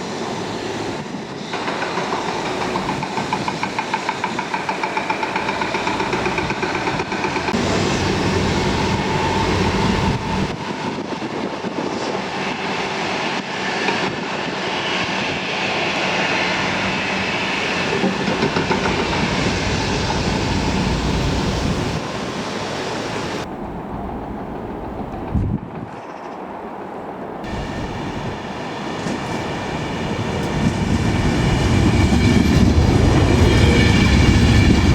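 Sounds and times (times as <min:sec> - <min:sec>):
train rumbling on rails: 0:00.0 - 0:34.9.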